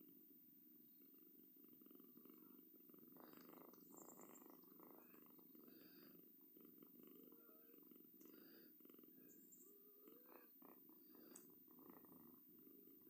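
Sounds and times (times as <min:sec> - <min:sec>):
cat purring faintly: 0:00.0 - 0:13.0.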